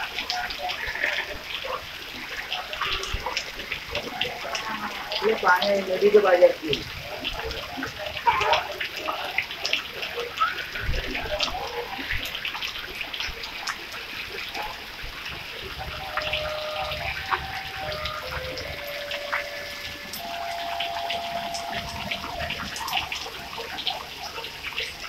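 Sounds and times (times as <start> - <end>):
drips and splashes: 0.0 - 25.0
heavy rain falling: 0.0 - 25.0.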